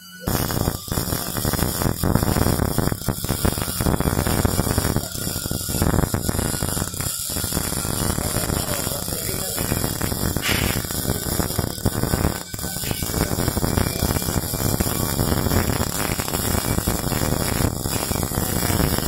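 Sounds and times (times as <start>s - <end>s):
welding arc crackling: 0.0s - 19.0s.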